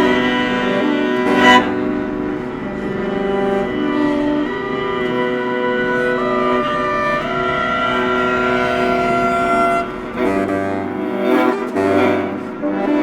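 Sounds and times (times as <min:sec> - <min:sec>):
baritone saxophone: 0:00.0 - 0:13.0
viola: 0:00.0 - 0:13.0.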